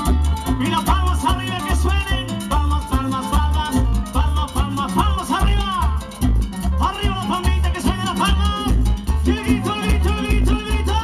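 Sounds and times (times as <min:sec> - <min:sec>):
bass notes beat: 0:00.0 - 0:11.0
live cumbia band playing: 0:00.0 - 0:11.0.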